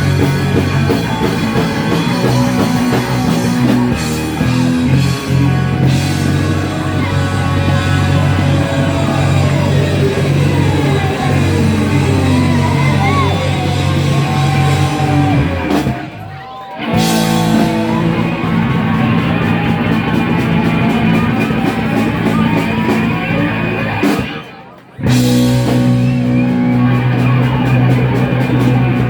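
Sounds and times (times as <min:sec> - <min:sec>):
electric guitar bends and slides: 0:00.0 - 0:16.0, 0:16.8 - 0:29.0
live rock band playing: 0:00.0 - 0:29.0.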